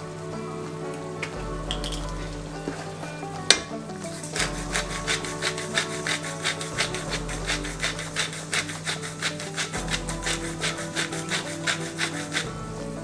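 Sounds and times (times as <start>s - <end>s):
spice grinder rasping: 1.3s - 13.0s.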